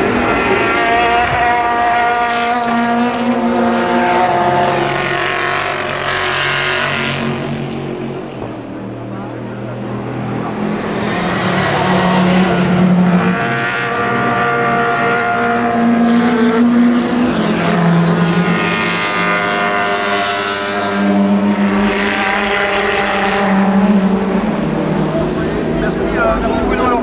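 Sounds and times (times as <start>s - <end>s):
race cars passing: 0.0s - 27.0s.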